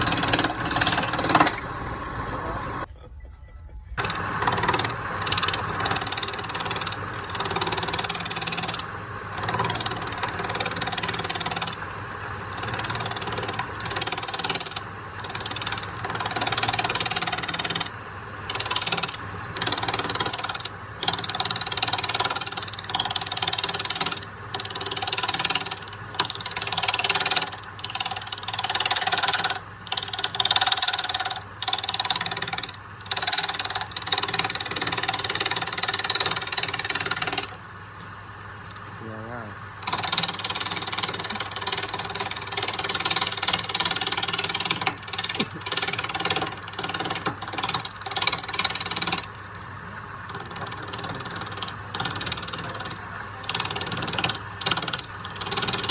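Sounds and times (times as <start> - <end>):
rasping wood cutting: 0.0 - 1.8, 4.0 - 11.8, 12.4 - 17.9, 18.5 - 37.6, 39.8 - 49.4, 50.3 - 55.9
power tool motor hum: 0.0 - 2.8, 4.0 - 11.8, 12.4 - 37.6, 39.8 - 49.4, 50.3 - 55.9.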